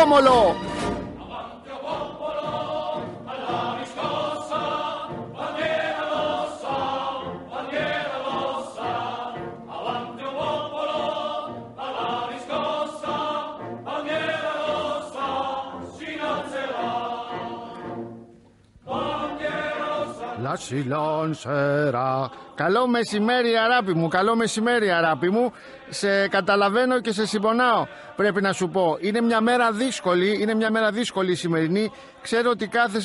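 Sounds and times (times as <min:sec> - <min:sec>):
background music: 0:00.0 - 0:33.0
choir singing: 0:00.0 - 0:33.0.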